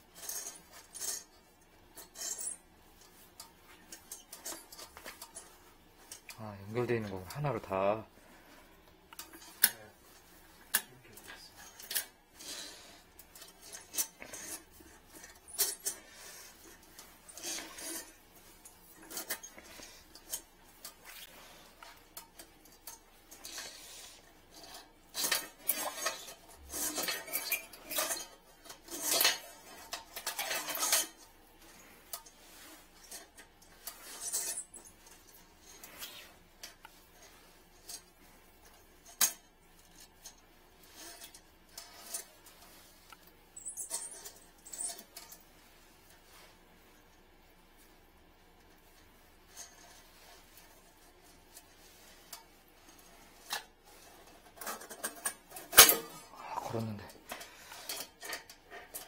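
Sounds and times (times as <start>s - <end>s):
metal wire scraping in toilet: 0.0s - 59.0s.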